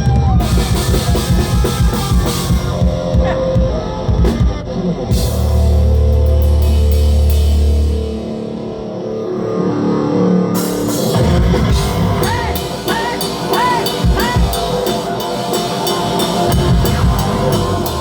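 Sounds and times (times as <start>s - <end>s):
live rock band playing: 0.0s - 9.1s, 10.6s - 18.0s.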